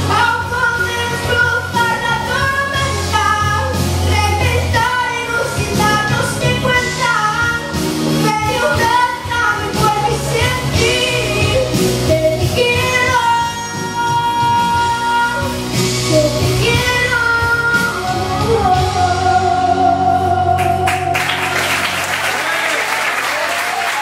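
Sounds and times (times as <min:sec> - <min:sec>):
woman singing a pop ballad: 0:00.0 - 0:21.4
piano accompaniment: 0:00.0 - 0:22.6.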